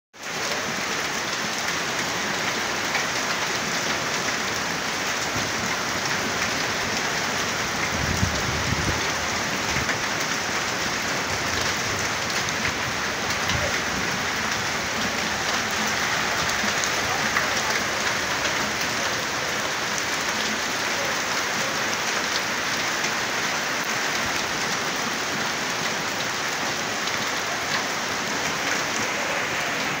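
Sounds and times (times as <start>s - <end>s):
hail and rain falling: 0.2s - 30.0s.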